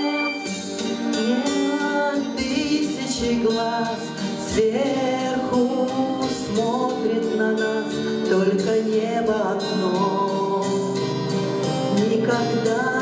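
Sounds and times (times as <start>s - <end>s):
instrumental accompaniment with beat: 0.0s - 13.0s.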